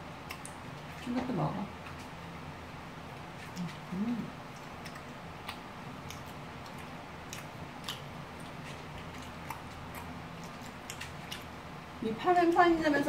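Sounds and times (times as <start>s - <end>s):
chewing rice cakes: 0.0s - 13.0s.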